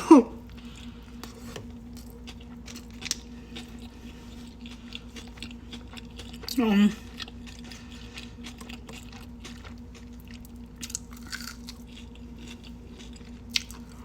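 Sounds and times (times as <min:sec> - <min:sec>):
faint steady hum: 0:00.0 - 0:14.0
person chewing food: 0:00.4 - 0:14.0.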